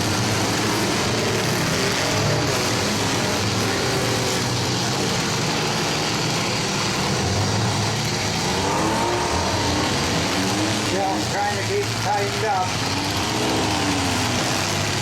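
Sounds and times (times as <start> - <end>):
engine revving: 0.0 - 15.0
many engines running: 0.0 - 15.0.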